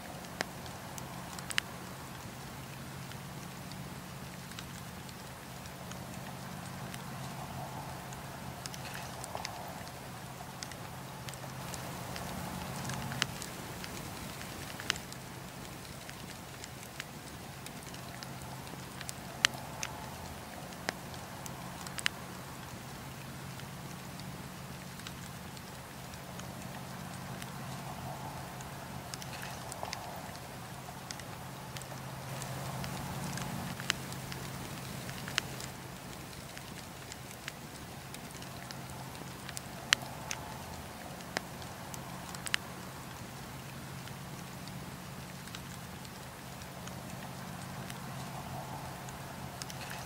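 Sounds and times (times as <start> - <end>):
logs crackling and popping: 0.0 - 50.0
low rush of flames: 0.0 - 50.0.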